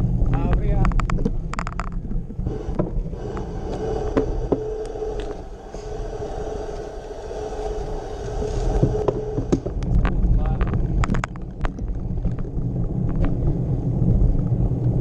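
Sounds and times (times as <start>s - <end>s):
bicycle rolling over cobblestones: 0.0s - 15.0s
faint steady whine: 0.0s - 15.0s
rattles and clicks: 0.2s - 5.5s, 8.2s - 15.0s.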